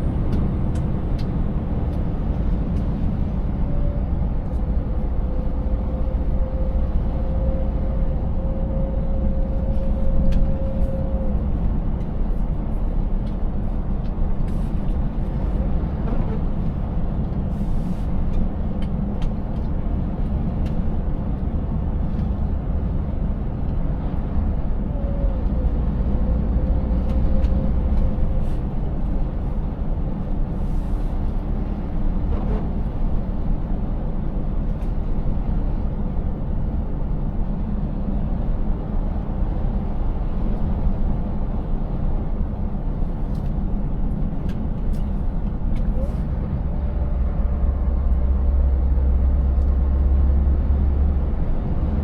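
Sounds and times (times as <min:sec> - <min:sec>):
road noise: 0:00.0 - 0:52.0
truck engine rumbling: 0:00.0 - 0:52.0.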